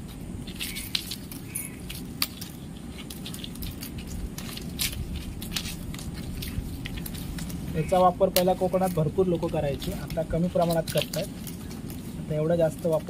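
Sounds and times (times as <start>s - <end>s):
low background rumble: 0.0s - 13.0s
palm leaves rustling: 0.0s - 13.0s.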